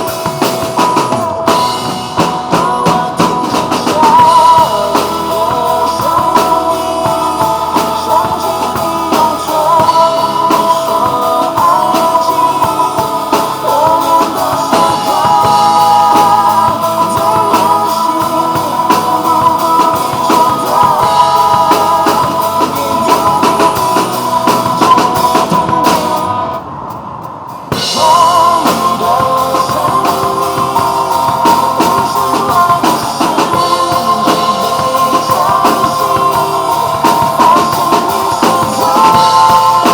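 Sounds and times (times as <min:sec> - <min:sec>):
drum kit playing: 0:00.0 - 0:39.9
recorded pop song: 0:00.0 - 0:39.9.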